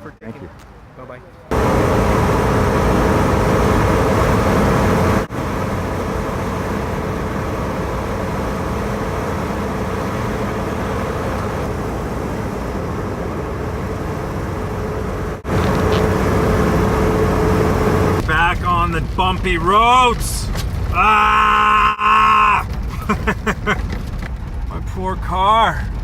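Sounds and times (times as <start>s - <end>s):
road noise: 0.0s - 26.0s
car engine driving: 1.5s - 26.0s.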